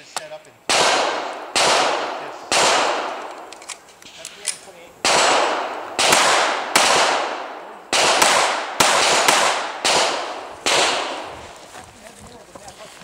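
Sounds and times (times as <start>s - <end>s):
pistol shots echoing: 0.7s - 11.4s.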